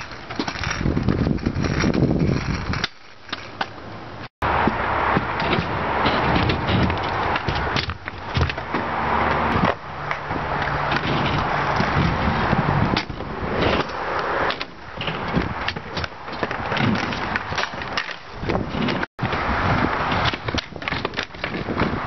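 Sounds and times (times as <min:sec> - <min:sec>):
scooter wheels rolling on concrete: 0:00.0 - 0:22.0.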